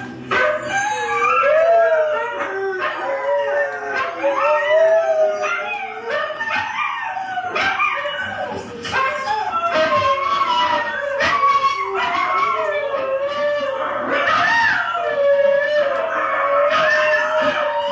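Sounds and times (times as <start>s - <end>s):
huskies howling: 0.0s - 17.9s.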